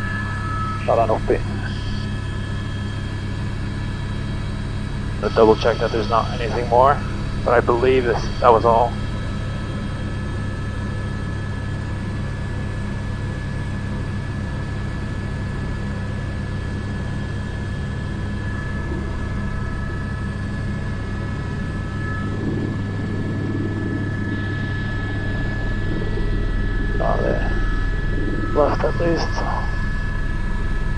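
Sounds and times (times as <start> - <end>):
helicopter rotor drone: 0.0 - 30.9
turbine whine: 0.0 - 30.9.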